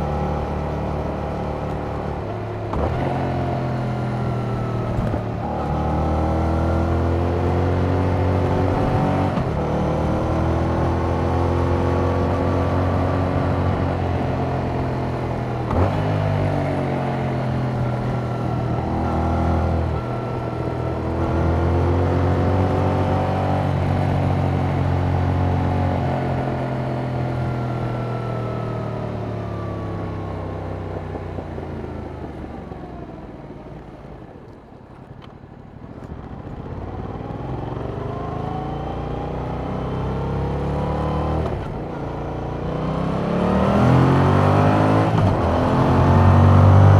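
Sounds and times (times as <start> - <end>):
motorcycle engine revving: 0.0 - 29.0, 36.5 - 46.9.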